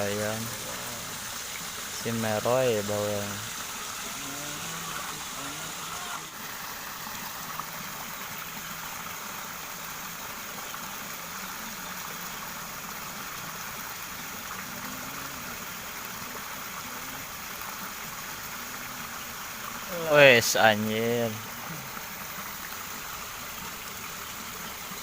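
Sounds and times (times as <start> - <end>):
water pouring into ditch: 0.0 - 25.0.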